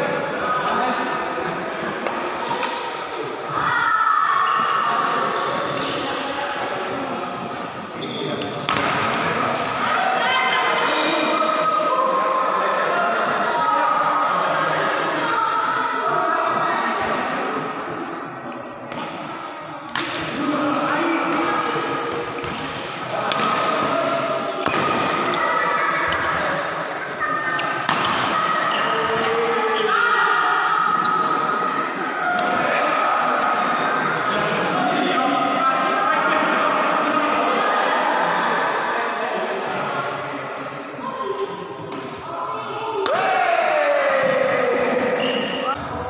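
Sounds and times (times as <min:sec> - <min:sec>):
echoing sports hall noise: 0:00.0 - 0:46.0.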